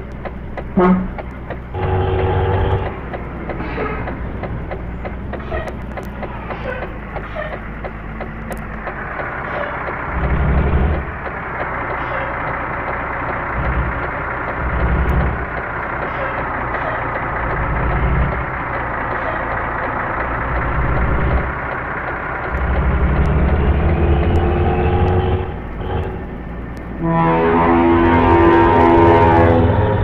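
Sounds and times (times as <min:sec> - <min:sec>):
bus engine growling: 0:00.0 - 0:30.0.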